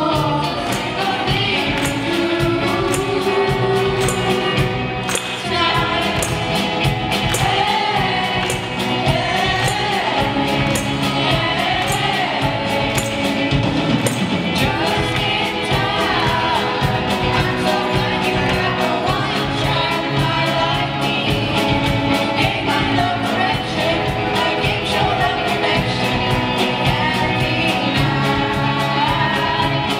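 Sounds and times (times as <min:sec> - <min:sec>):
band with keyboard and drums: 0:00.0 - 0:29.9
vocal ensemble singing: 0:00.0 - 0:29.9.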